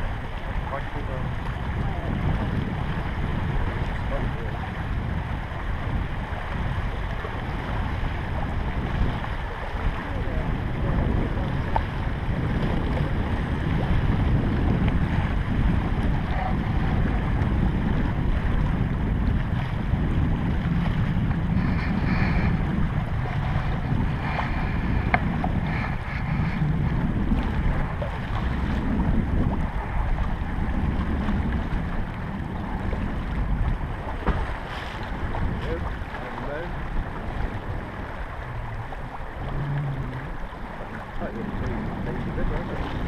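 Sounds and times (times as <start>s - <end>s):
water washing against hull: 0.0s - 43.0s
wind noise on microphone: 0.0s - 43.0s.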